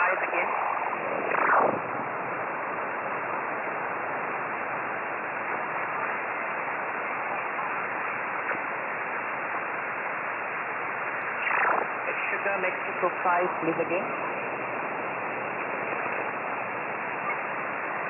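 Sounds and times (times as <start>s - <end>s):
shortwave radio static hiss: 0.0s - 18.0s.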